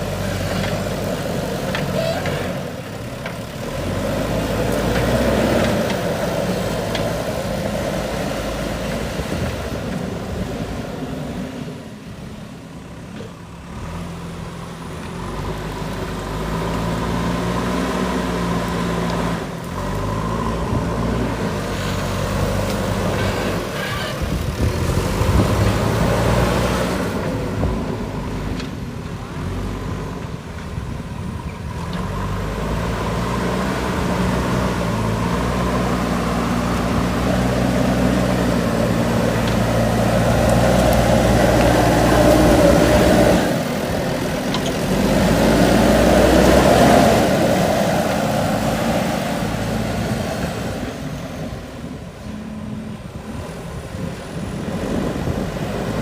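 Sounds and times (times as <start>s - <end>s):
backhoe diesel engine running hard: 0.0s - 56.0s.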